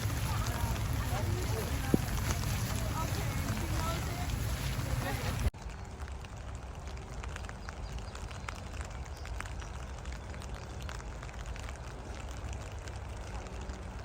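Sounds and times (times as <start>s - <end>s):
light rain pattering: 0.0s - 14.0s
steady low rumble: 0.0s - 14.0s.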